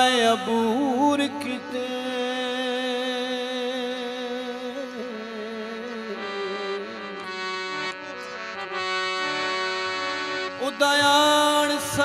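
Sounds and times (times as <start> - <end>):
harmonium chords: 0.0 - 12.0.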